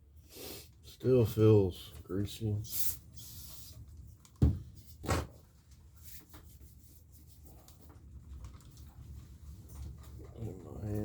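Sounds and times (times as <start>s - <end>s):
faint handling sounds: 0.1s - 11.0s.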